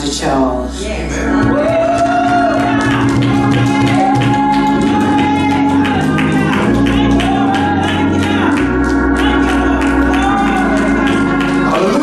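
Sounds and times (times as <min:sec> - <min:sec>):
bass line: 0:00.0 - 0:12.0
gospel music: 0:00.0 - 0:12.0
organ chords: 0:00.0 - 0:12.0.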